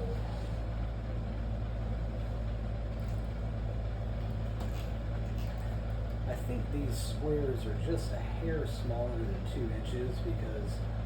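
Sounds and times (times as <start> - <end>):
low machine hum with hiss: 0.0 - 11.0.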